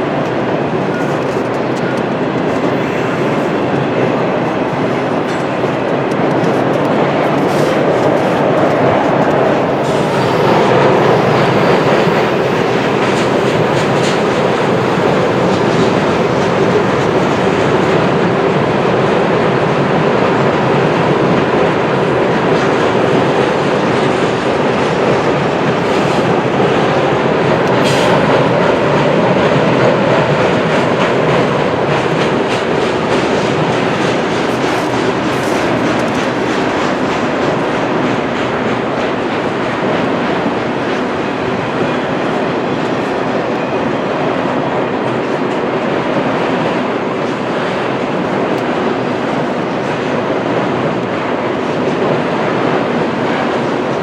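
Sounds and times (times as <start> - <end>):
wheels clicking on rail joints: 0.0 - 43.8
freight train wheels rumbling: 0.0 - 54.0.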